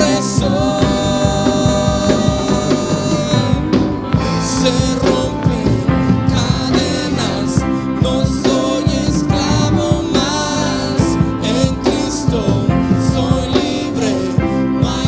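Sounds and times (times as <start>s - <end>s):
drums: 0.0s - 15.0s
worship band playing: 0.0s - 15.0s.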